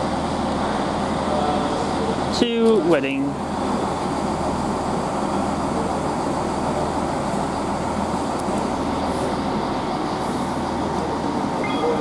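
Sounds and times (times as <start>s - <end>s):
train diesel engine droning: 0.0s - 12.0s.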